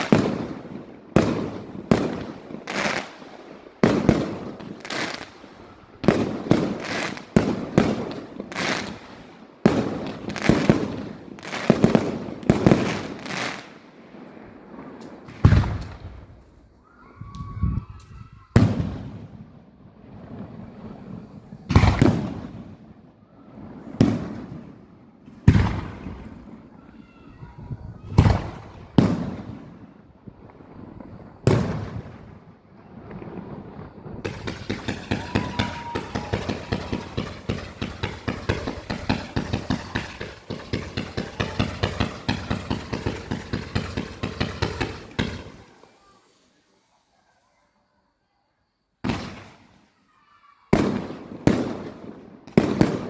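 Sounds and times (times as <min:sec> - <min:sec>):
rapid small firework shots: 0:00.0 - 0:13.8, 0:14.4 - 0:17.0, 0:17.9 - 0:47.4, 0:49.0 - 0:53.0.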